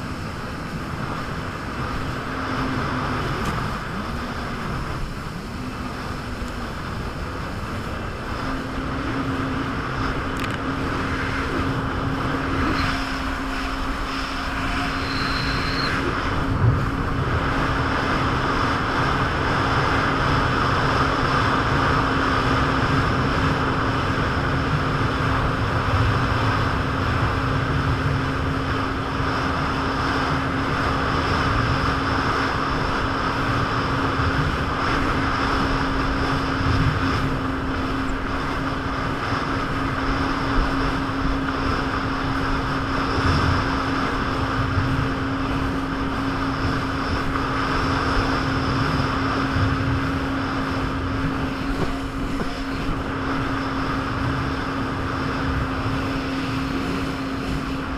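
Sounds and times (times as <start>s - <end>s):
jet ski engine running: 0.0s - 57.9s.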